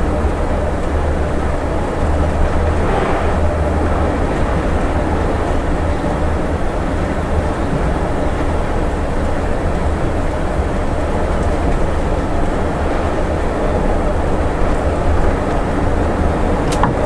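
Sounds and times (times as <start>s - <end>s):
bus engine and road noise rumble: 0.0s - 17.0s.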